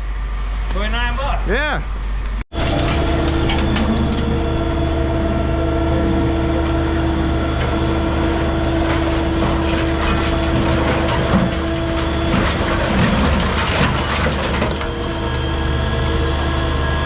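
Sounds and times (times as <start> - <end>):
heavy machinery droning: 0.0 - 17.0.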